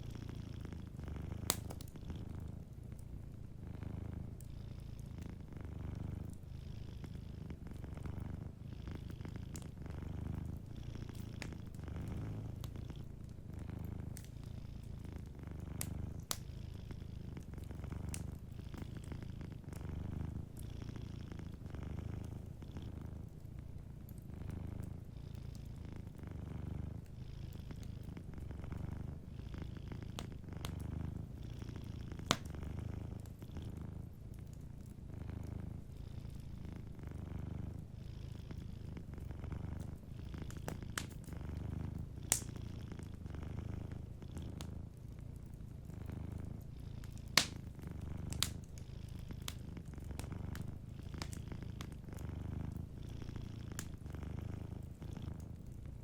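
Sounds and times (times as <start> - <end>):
wood fire crackling and popping: 0.0 - 6.4, 7.1 - 20.7, 21.4 - 36.4, 37.1 - 56.0
cat purring: 0.0 - 56.0.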